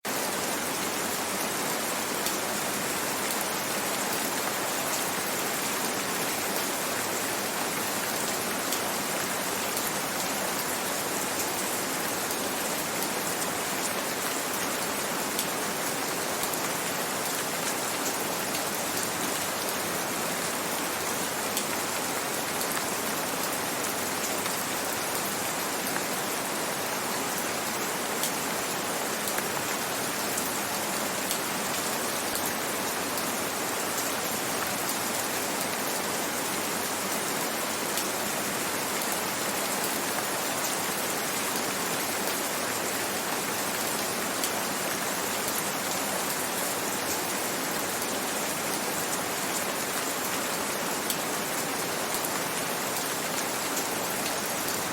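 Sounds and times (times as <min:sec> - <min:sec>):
gentle rain falling: 0:00.0 - 0:54.9.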